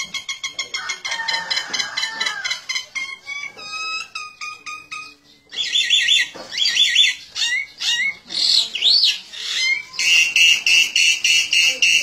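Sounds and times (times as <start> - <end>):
bird chirping: 2.3 - 12.0.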